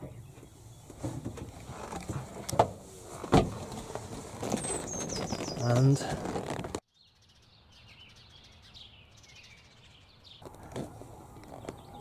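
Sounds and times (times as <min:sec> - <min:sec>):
small birds chirping: 0:00.0 - 0:02.2, 0:04.4 - 0:12.0.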